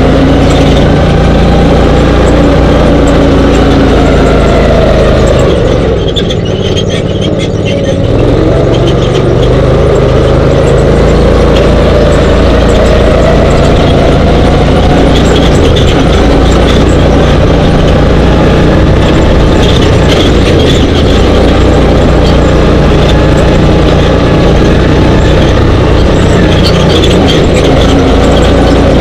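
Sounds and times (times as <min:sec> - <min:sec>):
dune buggy engine running: 0:00.0 - 0:29.0
riding noise rush: 0:00.0 - 0:29.0.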